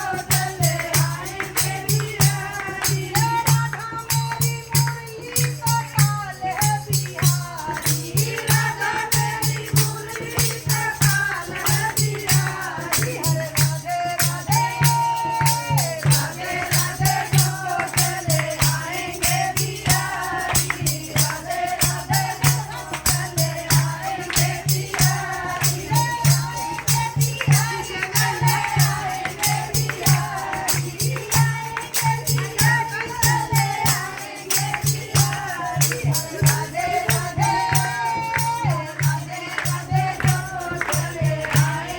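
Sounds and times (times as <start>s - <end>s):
group singing devotional chant: 0.0s - 41.9s
percussion fast steady beat: 0.0s - 41.9s.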